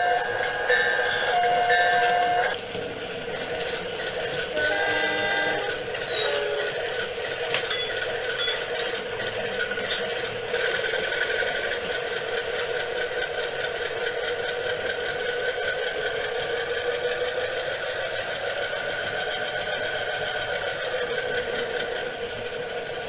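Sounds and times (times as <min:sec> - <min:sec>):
model train motor whirring: 0:00.0 - 0:23.0
wheels on rails: 0:00.0 - 0:23.0.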